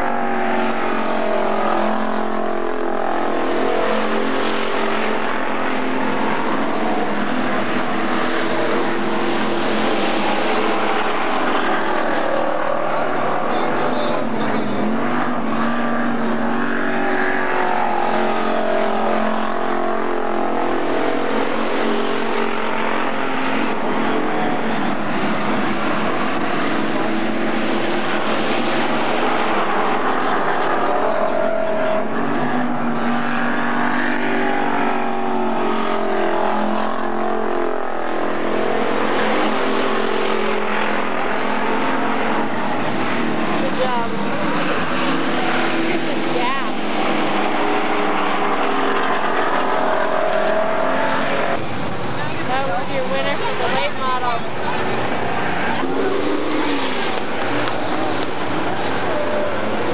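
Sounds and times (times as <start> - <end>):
race car engines passing by: 0.0 - 59.9.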